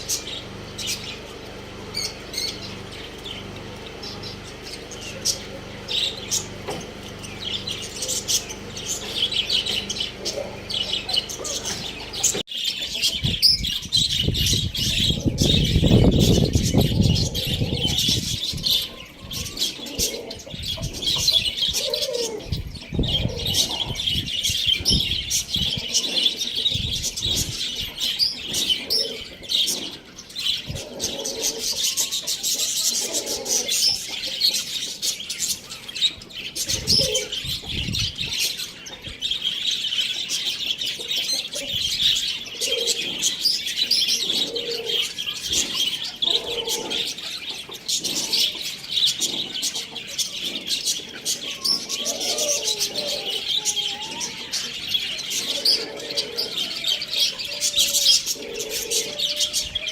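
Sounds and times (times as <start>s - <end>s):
cage birds twittering: 0.0s - 59.9s.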